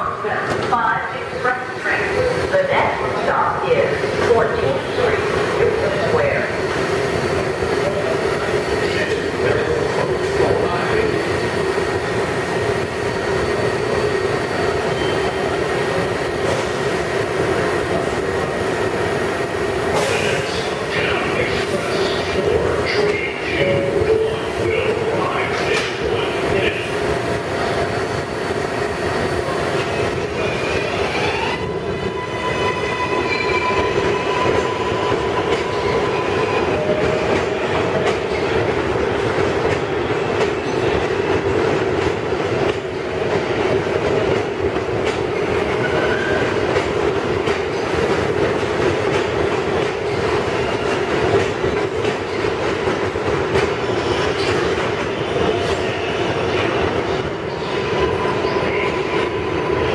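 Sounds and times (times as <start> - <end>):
train cars rumbling on rails: 0.0 - 59.9.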